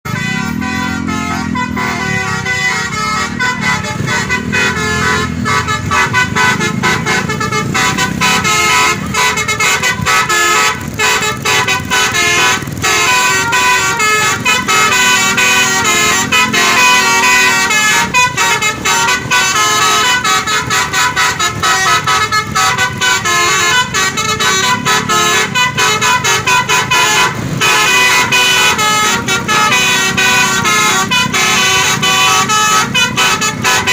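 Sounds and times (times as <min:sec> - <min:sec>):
bus engine running: 0:00.1 - 0:33.9
electric trumpet horns melody: 0:00.1 - 0:33.9.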